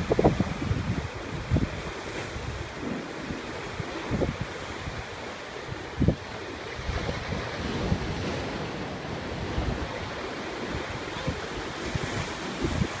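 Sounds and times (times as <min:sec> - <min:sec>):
ocean surf on rocky shore: 0:00.0 - 0:13.0
wind buffeting microphone: 0:00.0 - 0:13.0.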